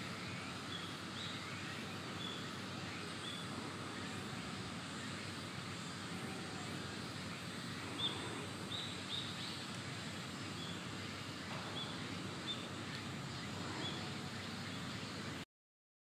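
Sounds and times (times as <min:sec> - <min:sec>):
steady background noise: 0:00.0 - 0:15.5
small bird chirping: 0:00.2 - 0:15.4.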